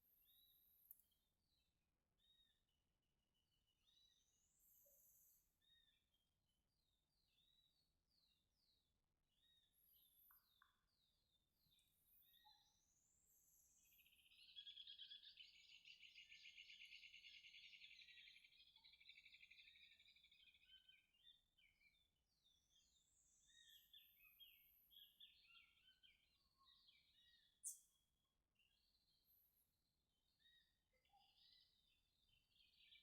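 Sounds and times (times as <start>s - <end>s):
faint buzzy bird trill: 3.5s - 33.0s.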